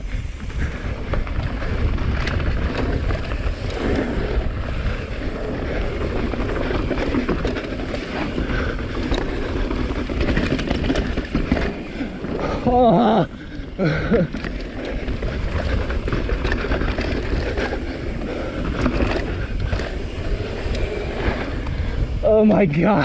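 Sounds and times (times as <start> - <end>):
bike rattling and clicking: 0.0 - 23.0
wind rushing over microphone: 0.0 - 23.0.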